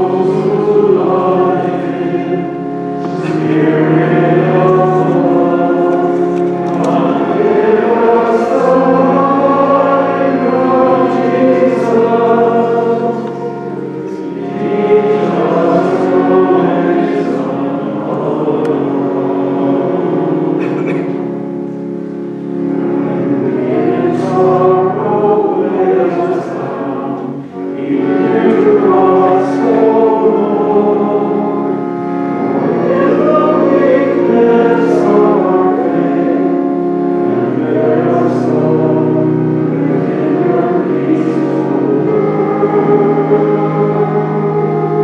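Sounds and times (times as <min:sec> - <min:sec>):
choir singing a hymn: 0:00.0 - 0:45.0
instrumental accompaniment: 0:00.0 - 0:45.0.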